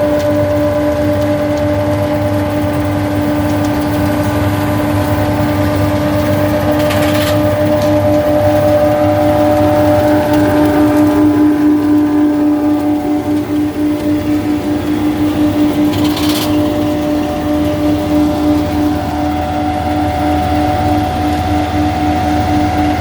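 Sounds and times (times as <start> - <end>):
harvester engine drone: 0.0 - 23.0
steady mechanical whine: 0.0 - 23.0.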